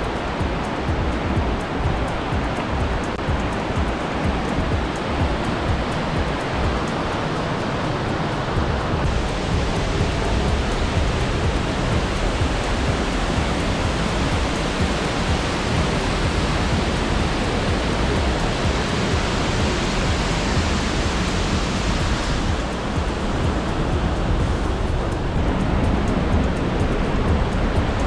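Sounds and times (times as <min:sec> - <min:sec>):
mountain torrent rushing: 0:00.0 - 0:28.0.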